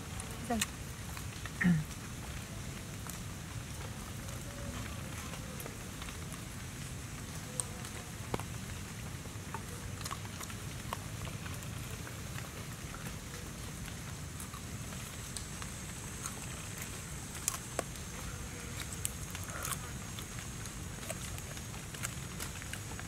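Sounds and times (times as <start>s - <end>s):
rain on foliage: 0.0s - 23.0s.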